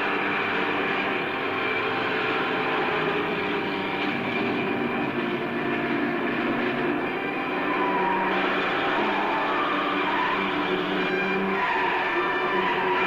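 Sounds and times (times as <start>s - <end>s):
moving vehicle engine and road noise: 0.0s - 13.0s.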